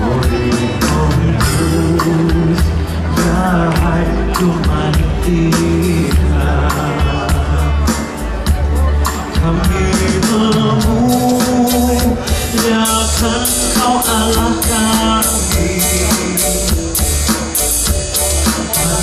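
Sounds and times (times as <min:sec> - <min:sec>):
drum beat and bass: 0:00.0 - 0:19.0
person singing: 0:00.0 - 0:19.0.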